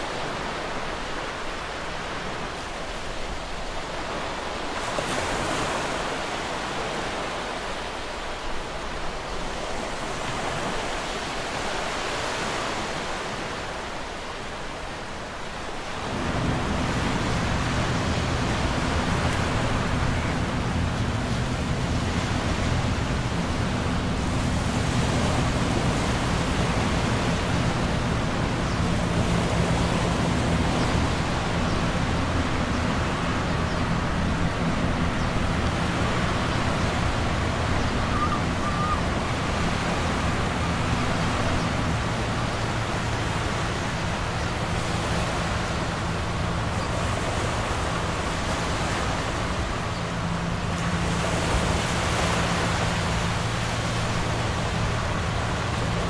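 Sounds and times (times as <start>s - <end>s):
low diesel drone of ships: 0.0s - 56.0s
river water rushing: 0.0s - 56.0s
wind: 0.0s - 56.0s.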